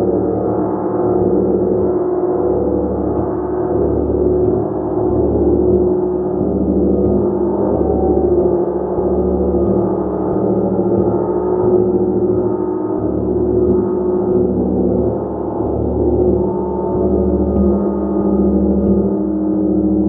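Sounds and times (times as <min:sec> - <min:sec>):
gong humming tones: 0:00.0 - 0:20.0.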